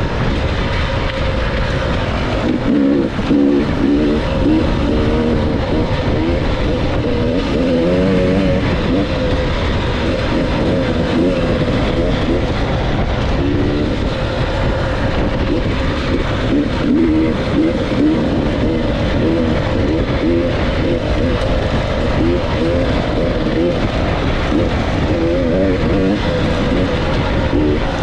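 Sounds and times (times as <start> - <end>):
dirt bike engine revving: 0.0 - 28.0
loud steady rushing noise: 0.0 - 28.0.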